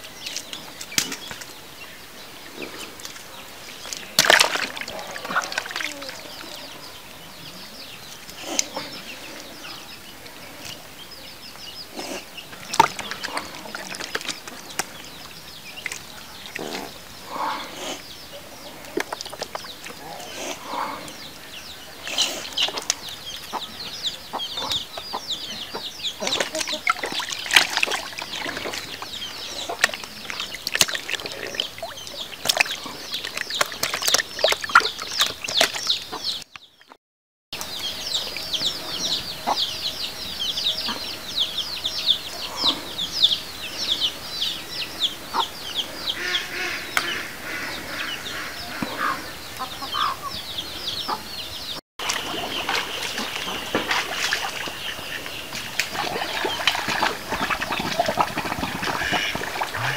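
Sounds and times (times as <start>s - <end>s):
many birds chirping: 0.0s - 37.0s, 37.6s - 59.9s.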